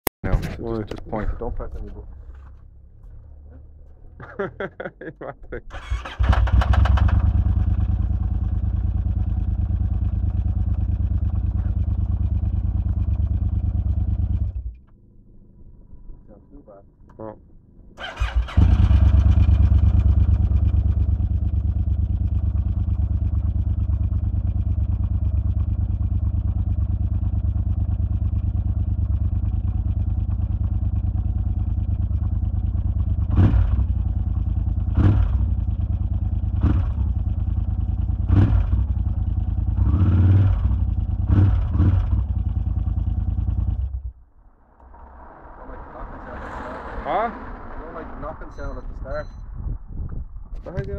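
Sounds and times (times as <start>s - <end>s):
motorcycle engine starting and idling: 0.3s - 4.6s, 5.5s - 50.9s.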